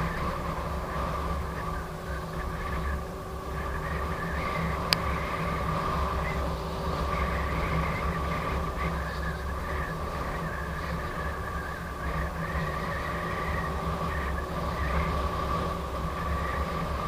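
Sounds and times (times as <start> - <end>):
electric motor whine: 0.0 - 17.0
road rumble: 0.0 - 17.0
wind: 0.0 - 17.0.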